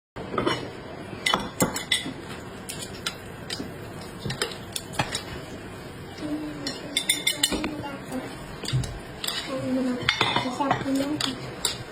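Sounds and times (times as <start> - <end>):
kitchen utensils and dishes clinking: 0.2 - 11.9.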